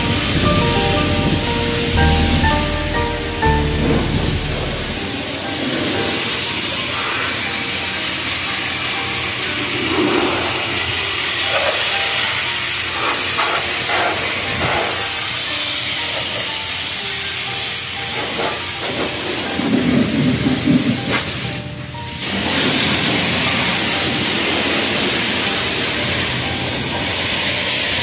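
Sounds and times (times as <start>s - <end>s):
pressure washer spraying water: 0.0s - 28.0s.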